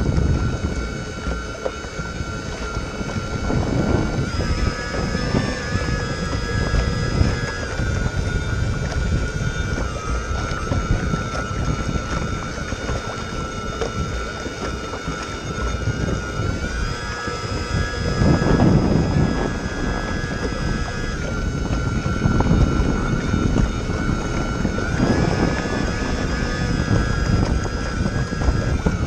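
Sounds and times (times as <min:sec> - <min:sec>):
electric motors whining: 0:00.0 - 0:29.0
water splashing against hull: 0:00.0 - 0:29.0
wind buffeting microphone: 0:00.0 - 0:29.0.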